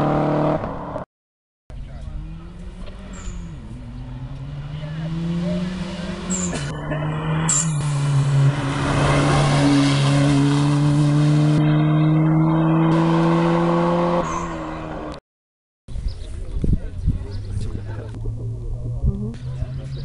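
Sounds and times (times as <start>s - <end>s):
car engine at high revs: 0.0s - 1.0s, 1.8s - 15.2s, 17.3s - 20.0s.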